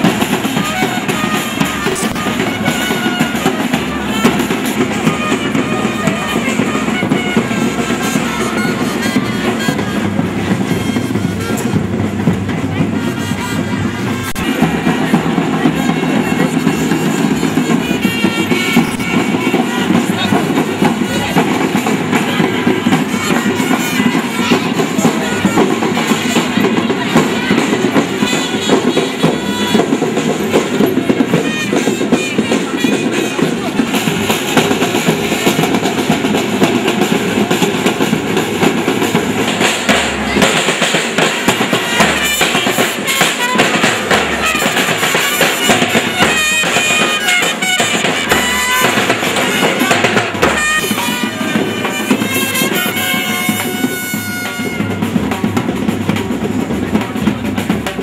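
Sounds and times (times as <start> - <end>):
band music with drums: 0.0 - 58.0.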